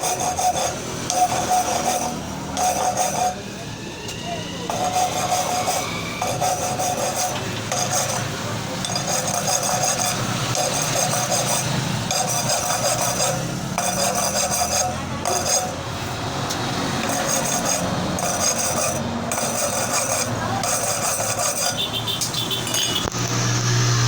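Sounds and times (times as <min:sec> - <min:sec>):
hand file rasping on metal: 0:00.0 - 0:03.4, 0:04.7 - 0:23.0.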